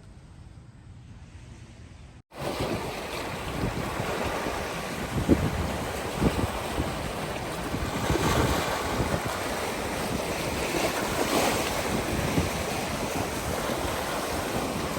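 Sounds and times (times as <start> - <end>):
waves washing on shore: 2.3 - 14.9
wind on microphone: 2.4 - 14.9.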